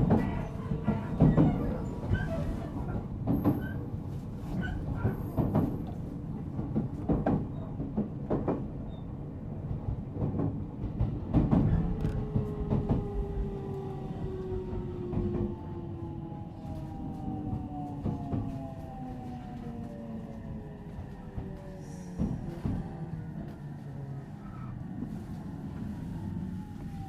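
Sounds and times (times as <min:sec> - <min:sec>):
train interior rumble: 0:00.0 - 0:27.0.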